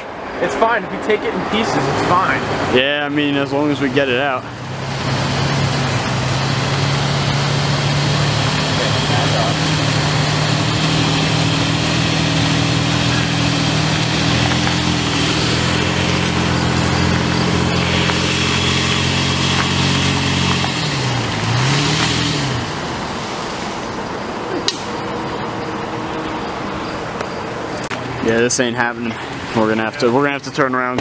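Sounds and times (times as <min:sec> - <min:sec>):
vehicle engine under load: 0:01.0 - 0:31.0.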